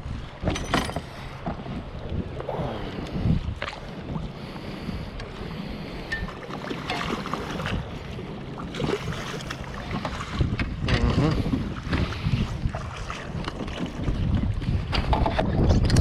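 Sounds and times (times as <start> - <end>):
water splashing against hull: 0.0 - 16.0
wind buffeting microphone: 0.0 - 16.0.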